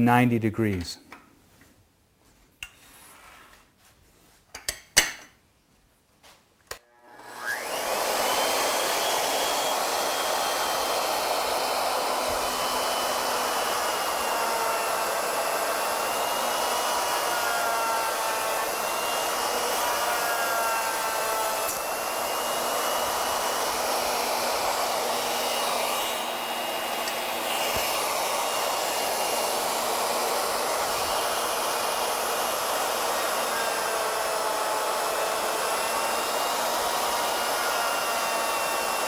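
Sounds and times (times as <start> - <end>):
router whining: 6.7 - 39.0.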